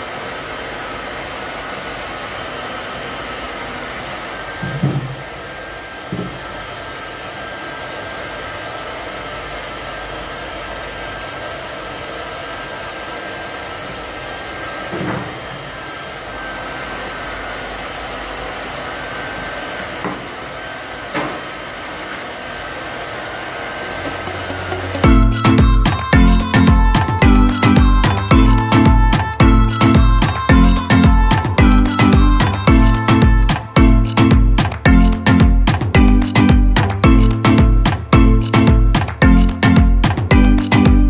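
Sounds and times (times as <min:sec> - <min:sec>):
pet dryer whirring: 0:00.0 - 0:36.9.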